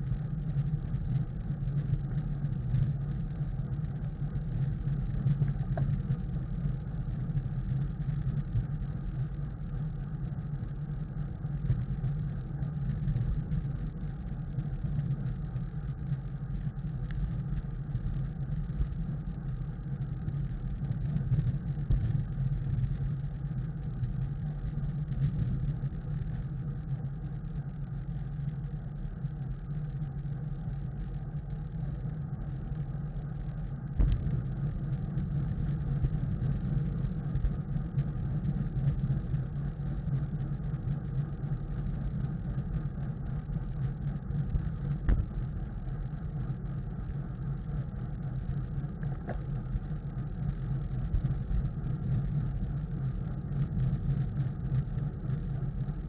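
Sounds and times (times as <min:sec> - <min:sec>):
wind rush and road noise: 0:00.0 - 0:56.0.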